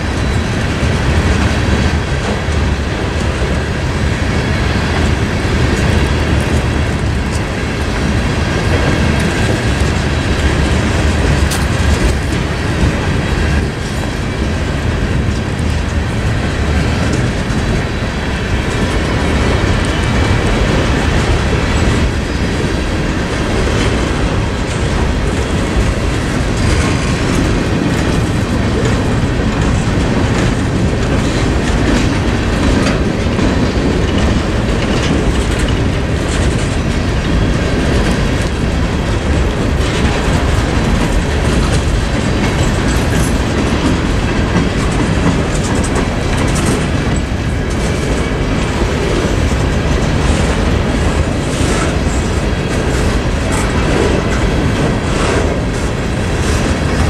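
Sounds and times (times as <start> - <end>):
clatter over rail joints: 0.0 - 57.0
freight train wheels rumbling: 0.0 - 57.0.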